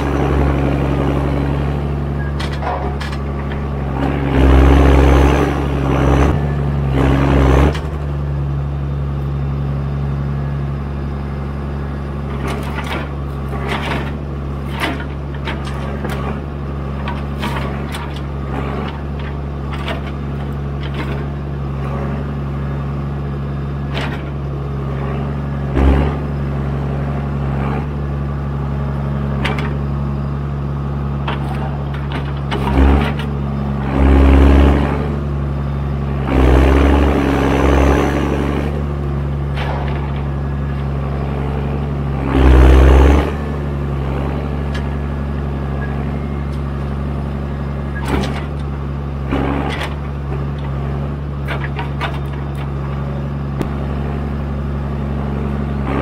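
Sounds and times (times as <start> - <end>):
crane knocks and rumbling bursts: 0.0 - 56.0
diesel engine running: 0.0 - 56.0.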